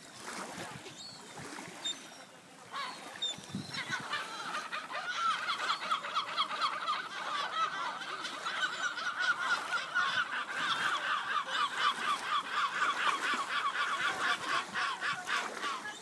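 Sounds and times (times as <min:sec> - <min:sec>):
gulls calling: 0:00.8 - 0:16.0.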